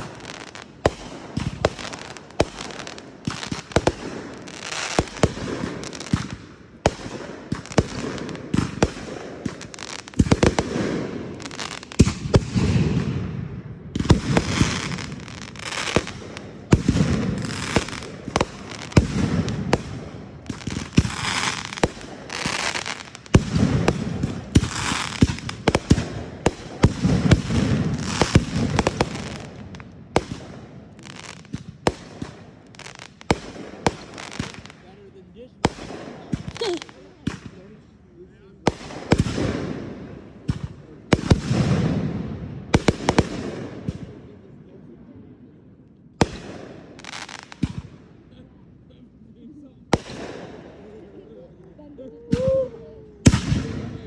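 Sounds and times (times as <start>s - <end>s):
fireworks bangs: 0.0s - 37.9s, 38.6s - 44.5s, 46.2s - 48.1s, 49.8s - 51.3s, 52.2s - 54.0s
fireworks crackling: 0.0s - 44.3s, 46.2s - 48.6s, 49.5s - 54.0s.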